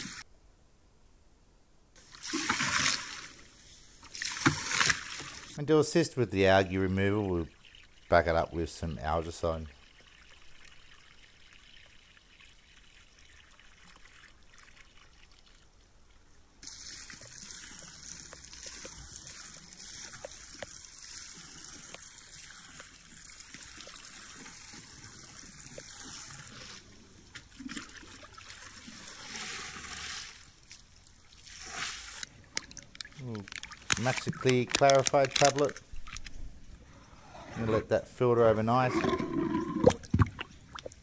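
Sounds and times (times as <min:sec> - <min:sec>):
water trickling and splashing: 0:02.0 - 0:41.0.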